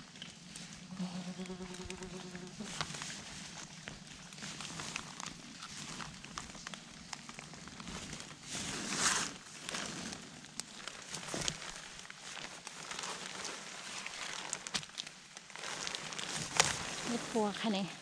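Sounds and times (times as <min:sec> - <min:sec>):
dry leaves and twigs crackling: 0:00.0 - 0:18.0.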